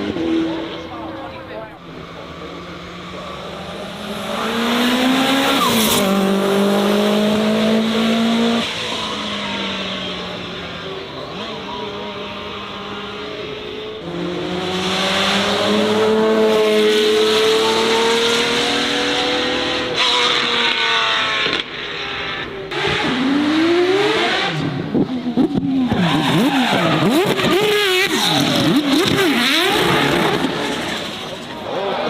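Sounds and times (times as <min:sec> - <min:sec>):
race car engine: 0:00.0 - 0:32.0.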